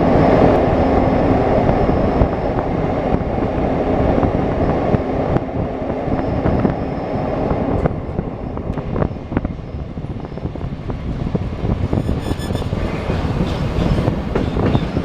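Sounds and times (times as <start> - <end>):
rushing wind: 0.0 - 15.0
train rumbling: 0.0 - 15.0.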